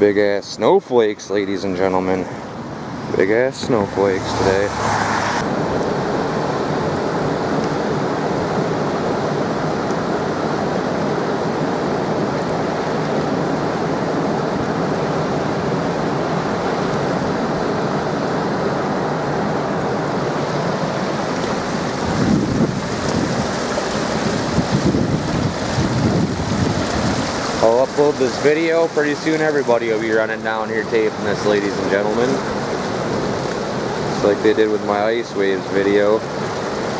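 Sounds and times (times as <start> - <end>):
water rushing through dam gates: 0.6 - 36.9
wind buffeting microphone: 2.6 - 34.4.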